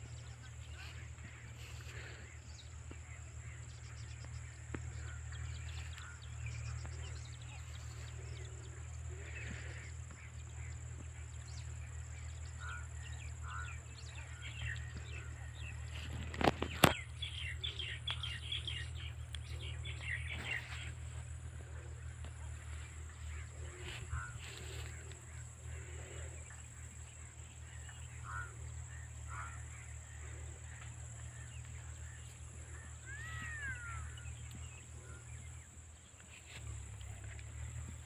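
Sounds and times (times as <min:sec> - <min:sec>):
birds chirping: 0:00.0 - 0:38.0
steady low rumble: 0:00.0 - 0:38.0.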